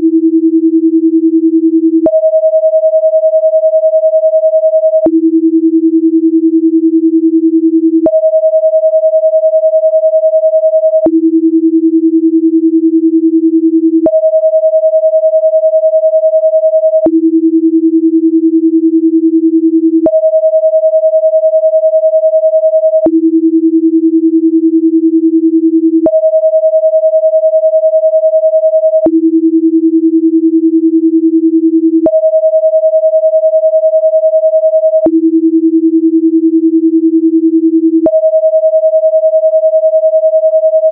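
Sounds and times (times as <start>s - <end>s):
pure sine tones: 0.0s - 36.4s, 37.8s - 40.9s.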